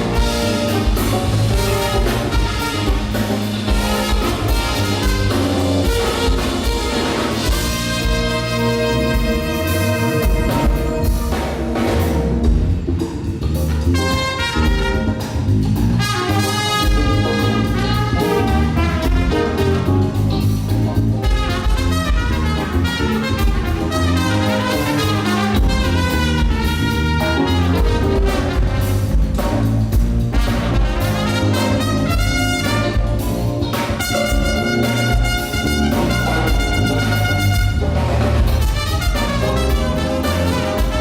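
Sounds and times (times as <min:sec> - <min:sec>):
saxophone and horns melody: 0:00.0 - 0:13.0, 0:13.6 - 0:41.0
funk band playing: 0:00.0 - 0:41.0.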